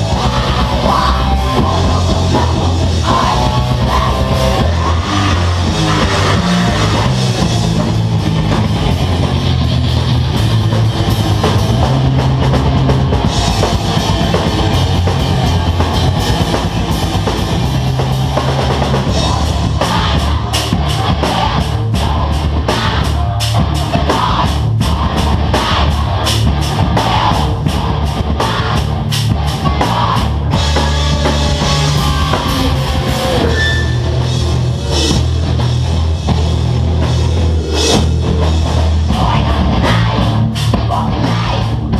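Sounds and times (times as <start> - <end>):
live heavy rock band: 0.0 - 41.9.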